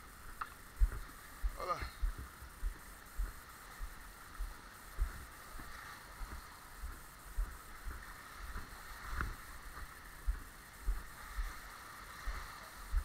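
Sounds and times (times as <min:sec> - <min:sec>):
steady background hiss: 0:00.0 - 0:13.0
footsteps on concrete and dirt: 0:00.2 - 0:11.5.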